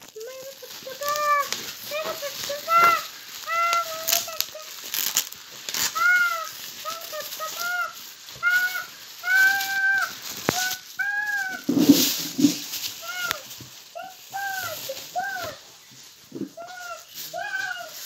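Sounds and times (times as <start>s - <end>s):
bubble wrap crackling: 0.0s - 18.0s.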